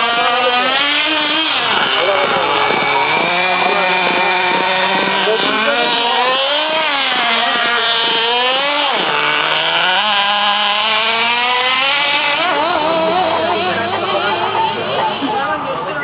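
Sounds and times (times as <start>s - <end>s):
low steady engine note: 0.0s - 16.0s
small two-stroke engine revving: 0.0s - 16.0s.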